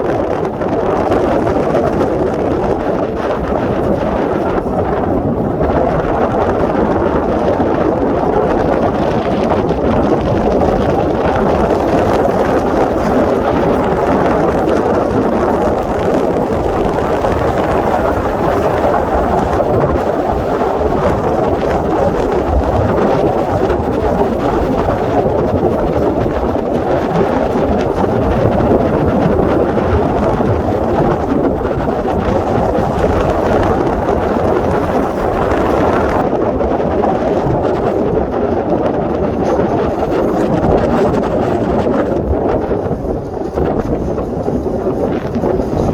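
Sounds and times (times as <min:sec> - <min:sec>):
boat motor humming: 0:00.0 - 0:45.9
wind over microphone: 0:00.0 - 0:45.9.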